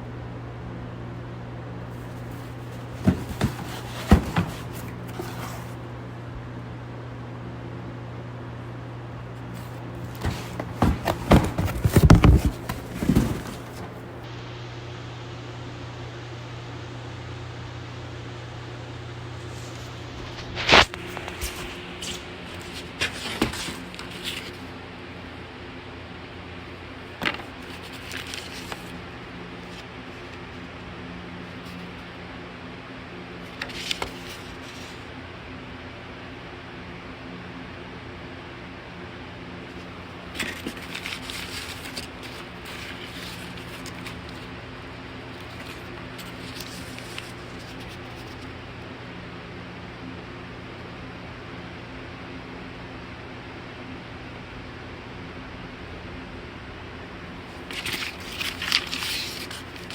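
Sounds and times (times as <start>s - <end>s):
ceiling fan motor humming: 0.0s - 59.9s.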